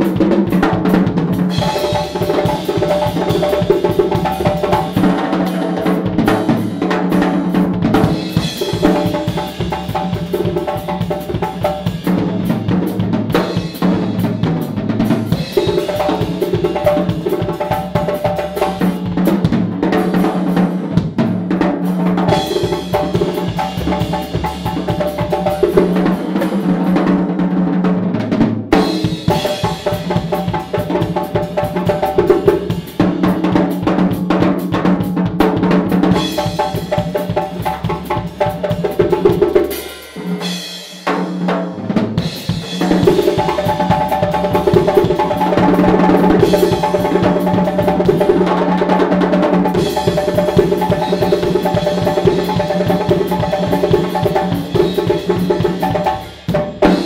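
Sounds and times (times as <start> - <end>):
djembe hand strikes: 0.0 - 27.4, 28.2 - 57.0
drum kit playing: 0.0 - 57.0.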